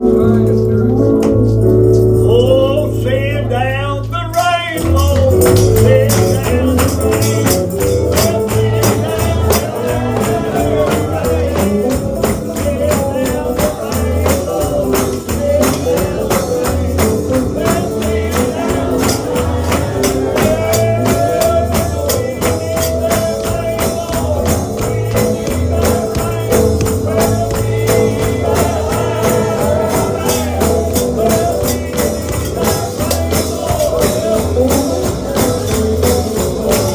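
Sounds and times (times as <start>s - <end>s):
bass line: 0.0s - 36.9s
people singing: 2.3s - 36.9s
tambourine beat: 4.0s - 36.9s.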